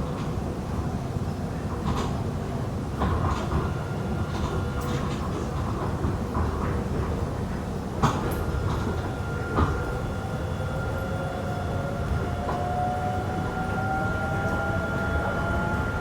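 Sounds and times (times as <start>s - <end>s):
train car low rumble: 0.0s - 16.0s
train drive whine: 3.0s - 16.0s.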